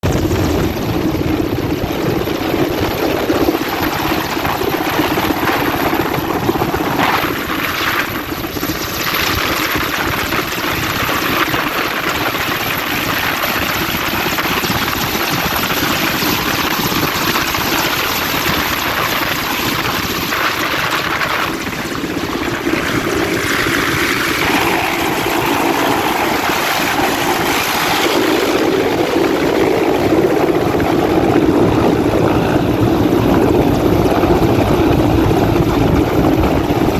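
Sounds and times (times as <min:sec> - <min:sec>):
helicopter rotor and engine: 0:00.0 - 0:36.9.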